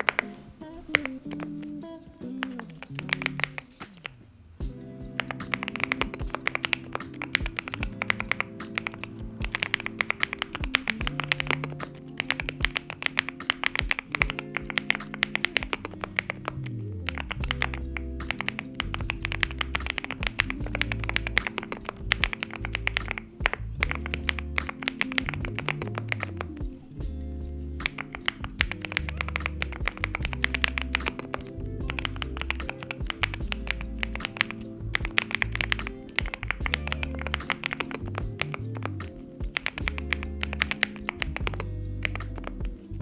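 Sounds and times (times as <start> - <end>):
background music with bass: 4.6 - 43.0.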